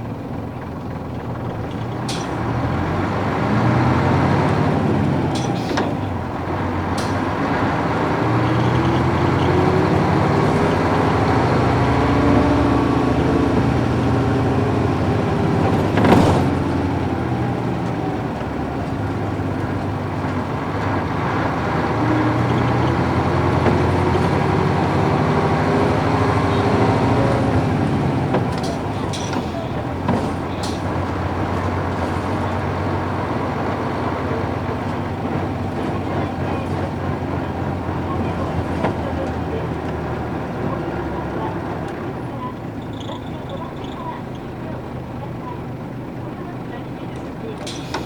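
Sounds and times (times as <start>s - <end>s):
bus diesel engine running: 0.0s - 48.0s.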